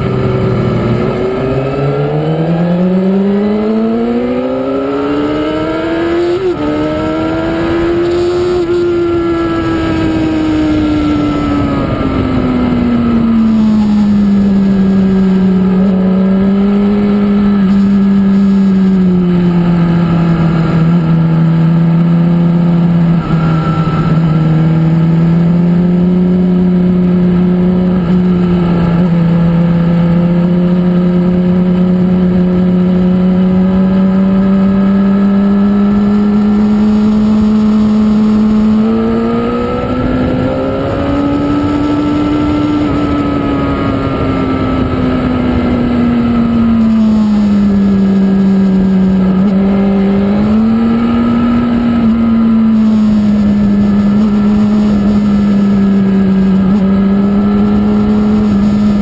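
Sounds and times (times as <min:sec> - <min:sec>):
motorcycle engine at speed: 0:00.0 - 0:59.0
wind rush over microphone: 0:00.0 - 0:59.0.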